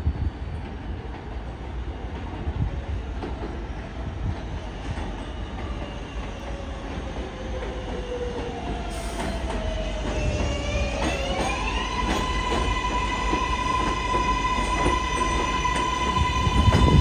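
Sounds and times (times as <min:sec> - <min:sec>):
train wheels rumbling on track: 0:00.0 - 0:17.0
train whine: 0:00.0 - 0:17.0.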